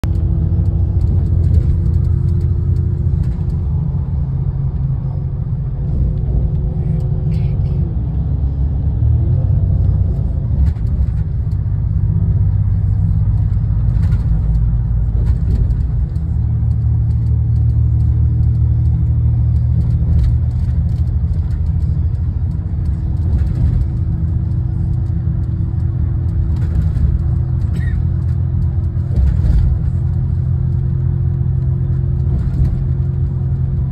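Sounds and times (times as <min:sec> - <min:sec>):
droning hum: 0:00.0 - 0:33.9
vehicle engine and road rumble: 0:00.0 - 0:33.9.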